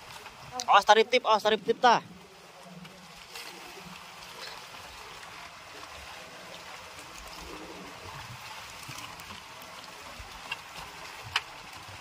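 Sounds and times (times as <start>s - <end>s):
sea water washing: 0.0s - 12.0s.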